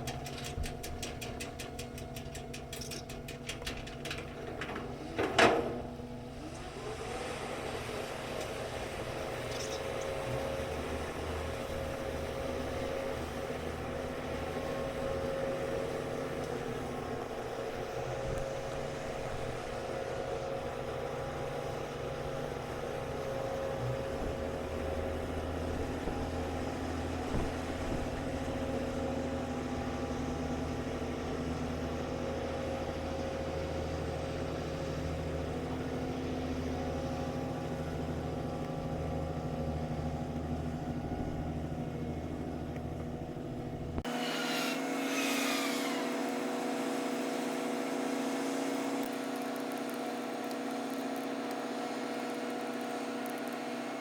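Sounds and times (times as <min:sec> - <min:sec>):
diesel engine rumbling: 0:00.0 - 0:44.1.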